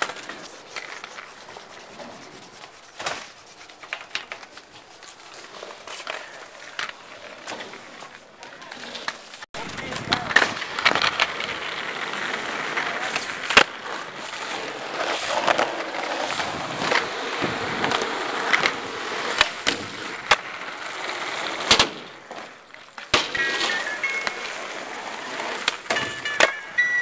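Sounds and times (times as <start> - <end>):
skateboard popping and landing: 0.0 - 27.0
skateboard wheels rolling on concrete: 0.0 - 27.0.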